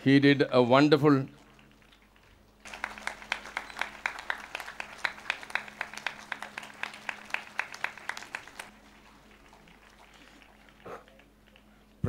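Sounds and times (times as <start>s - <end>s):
congregation clapping in time: 1.4s - 11.7s.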